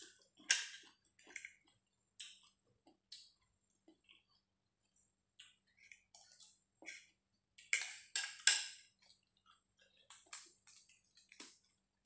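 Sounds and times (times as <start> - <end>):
chewing: 0.0 - 11.9.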